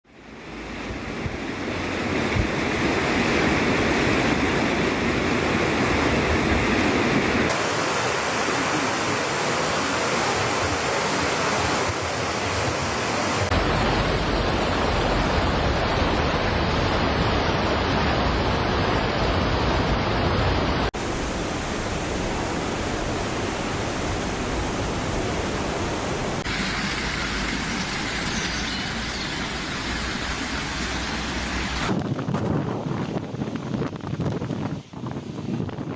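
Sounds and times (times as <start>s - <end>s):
wind: 0.0s - 35.9s
rushing floodwater: 0.1s - 32.1s
heavy rain: 0.4s - 31.9s.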